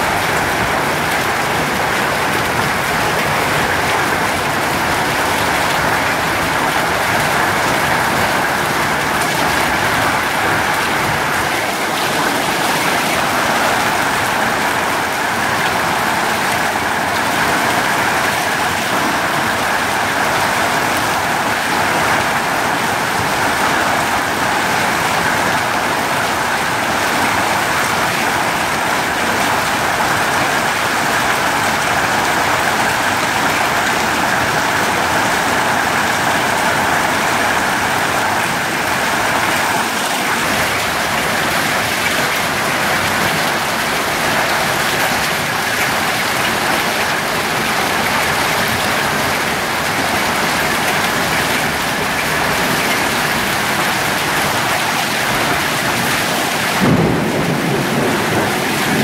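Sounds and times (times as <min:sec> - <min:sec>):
hail and rain hissing on paving: 0:00.0 - 0:59.0.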